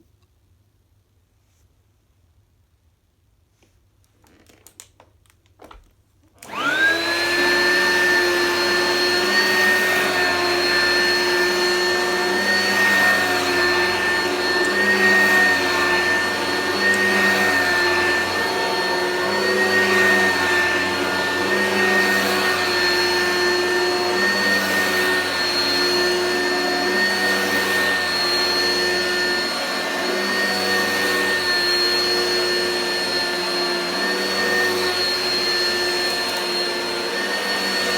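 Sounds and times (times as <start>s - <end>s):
vacuum cleaner motor whine: 6.4s - 37.9s.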